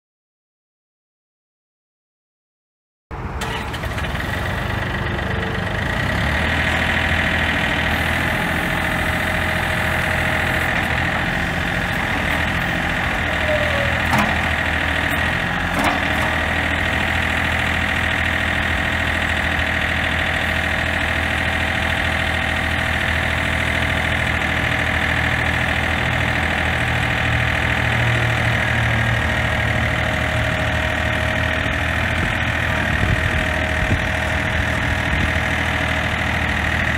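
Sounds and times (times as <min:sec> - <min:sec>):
tractor diesel engine running: 0:03.1 - 0:36.9.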